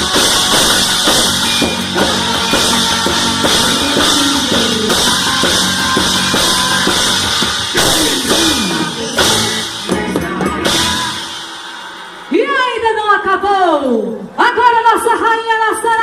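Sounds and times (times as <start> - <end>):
dance music with drums and guitar: 0.0 - 13.1.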